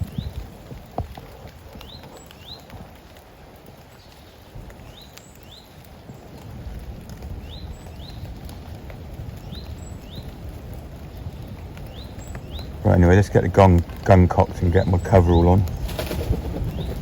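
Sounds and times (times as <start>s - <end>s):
rain patter in woodland: 0.0s - 17.0s.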